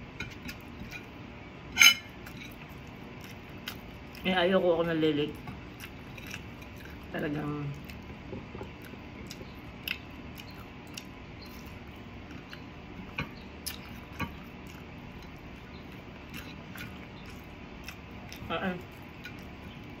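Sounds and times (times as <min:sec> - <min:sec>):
person chewing food: 0:02.1 - 0:04.3, 0:05.3 - 0:20.0.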